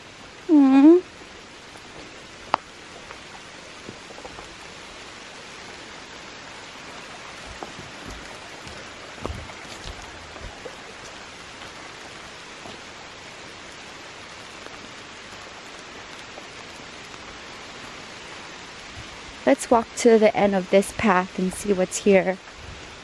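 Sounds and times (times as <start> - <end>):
steady rain falling: 0.0 - 23.0
raindrops ticking: 0.1 - 23.0.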